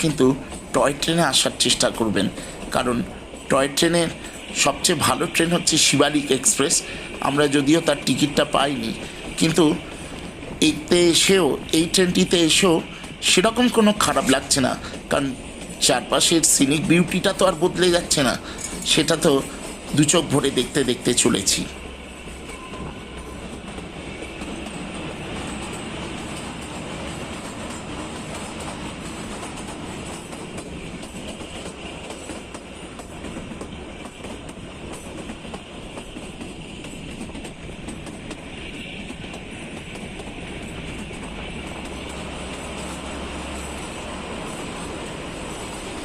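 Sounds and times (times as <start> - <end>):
clickety-clack of rail joints: 0.0 - 46.0
train wheels rumbling on rail: 0.0 - 46.0.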